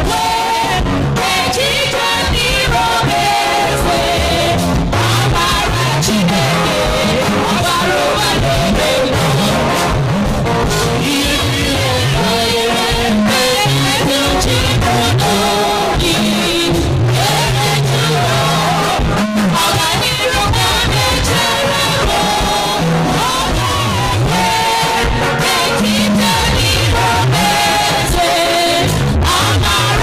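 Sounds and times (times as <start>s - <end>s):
person singing: 0.0s - 10.0s, 10.8s - 30.0s
gospel song: 0.0s - 30.0s.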